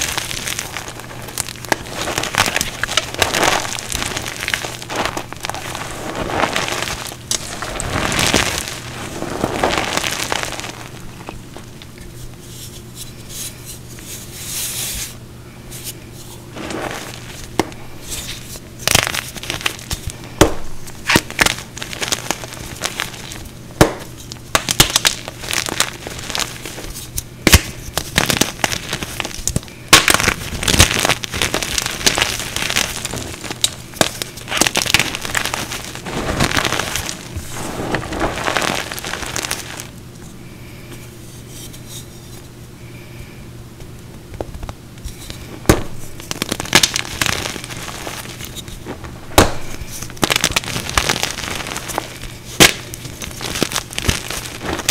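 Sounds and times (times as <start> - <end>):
hands crushing chalk: 0.0 - 15.1, 15.8 - 39.9, 44.4 - 54.9.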